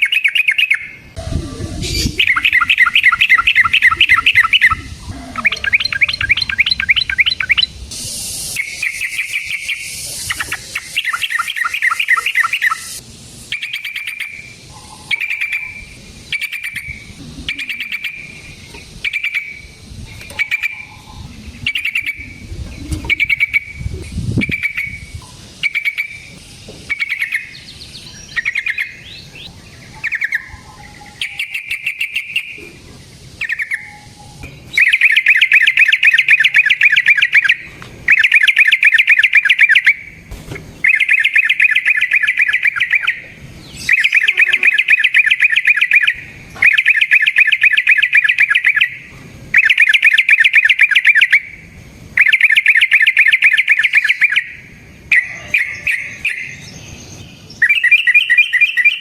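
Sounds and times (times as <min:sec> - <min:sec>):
bird singing with rolling trills: 0:00.0 - 0:59.0.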